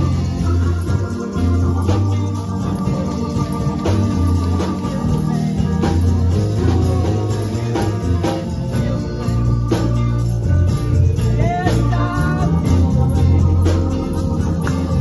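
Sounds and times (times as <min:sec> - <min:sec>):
guitar: 0:00.0 - 0:15.0
heavy bass line: 0:00.0 - 0:15.0
organ: 0:00.0 - 0:15.0
person singing: 0:00.0 - 0:15.0
steady drum beat: 0:00.0 - 0:15.0.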